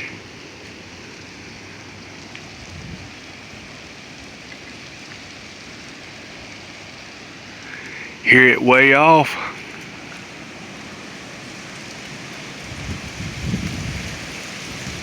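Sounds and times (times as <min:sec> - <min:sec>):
storm wind through trees: 0:00.0 - 0:15.0.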